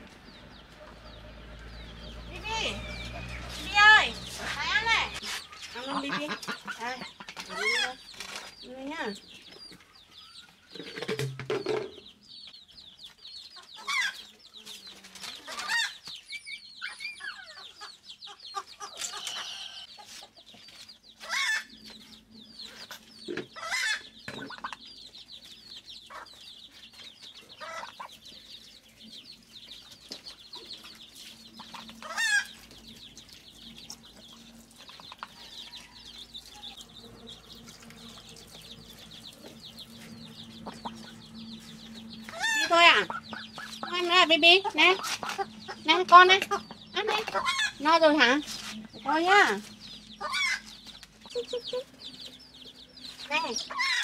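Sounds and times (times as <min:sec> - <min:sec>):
chickens clucking and calling: 0:00.0 - 0:54.0
chicks peeping: 0:00.0 - 0:54.0.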